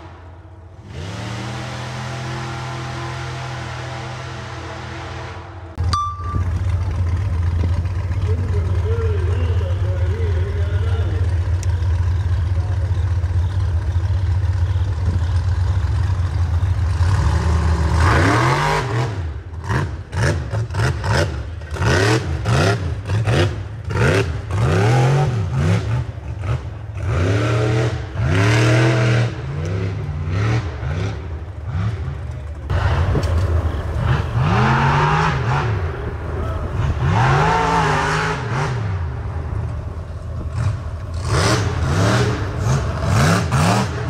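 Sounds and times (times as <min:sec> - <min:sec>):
buggy engine revving: 0:00.0 - 0:44.0.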